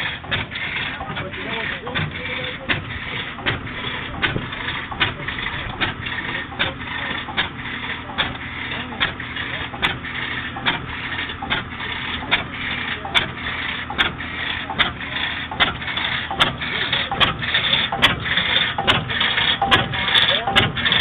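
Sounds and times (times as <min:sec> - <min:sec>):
engine running with sharp clicks: 0:00.0 - 0:21.0.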